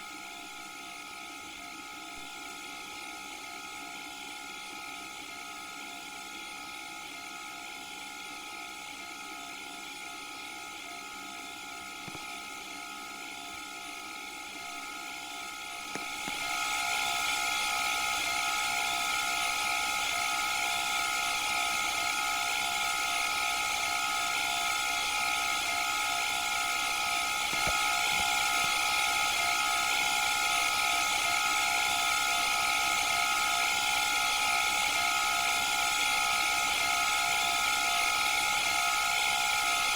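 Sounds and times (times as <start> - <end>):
washing machine whine: 0.0 - 39.9.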